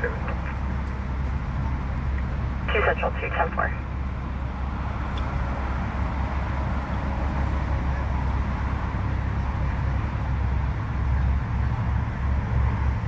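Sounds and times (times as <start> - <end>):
freeway traffic rumble: 0.0 - 13.0.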